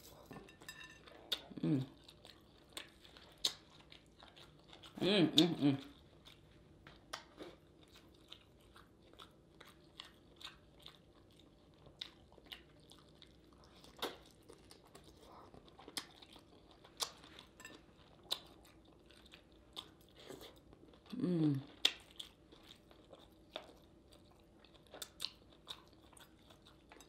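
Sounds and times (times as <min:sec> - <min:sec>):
chewing: 0:00.0 - 0:27.0.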